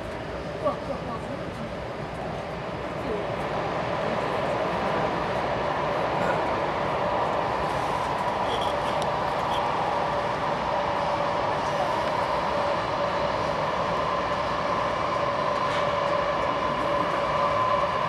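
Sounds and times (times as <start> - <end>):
steady train whine: 0.0 - 18.0.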